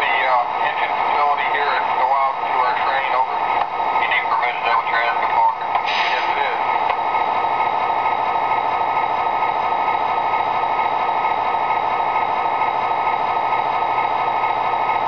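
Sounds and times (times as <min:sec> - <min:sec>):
model locomotive diesel engine idling: 0:00.0 - 0:15.0.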